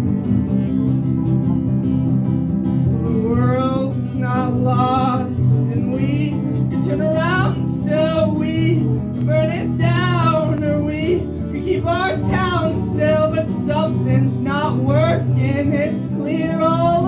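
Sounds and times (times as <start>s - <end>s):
guitar: 0.0s - 17.0s.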